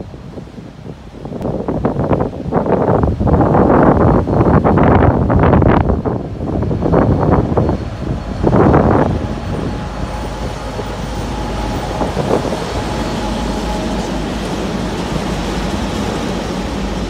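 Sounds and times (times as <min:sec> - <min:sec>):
diesel locomotive passing: 0:00.0 - 0:17.0
wheels rolling on rail: 0:01.7 - 0:17.0.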